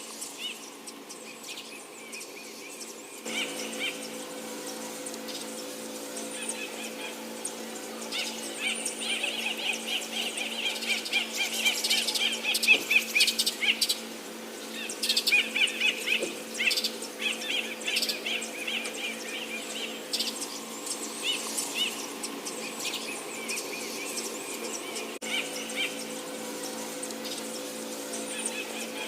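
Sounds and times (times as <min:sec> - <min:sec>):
steady low hum: 0:00.0 - 0:29.0
high chirping calls: 0:00.2 - 0:29.0.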